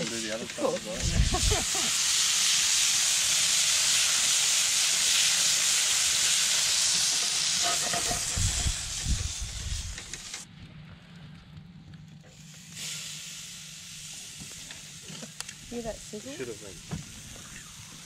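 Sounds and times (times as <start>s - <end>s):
meat sizzling on a grill: 0.0s - 10.4s, 12.3s - 18.0s.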